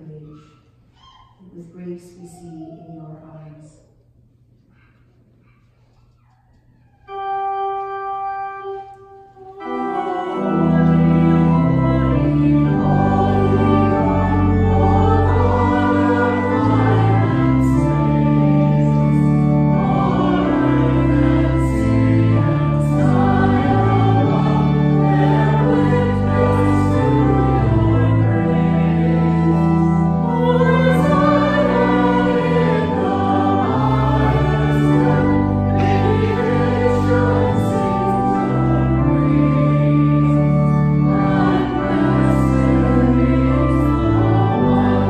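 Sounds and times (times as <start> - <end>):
church organ playing: 6.9 - 45.0
congregation singing: 7.1 - 45.0.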